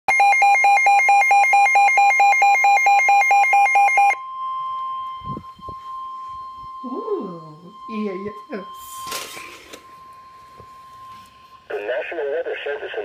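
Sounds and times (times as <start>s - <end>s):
steady high tone: 0.1s - 13.0s.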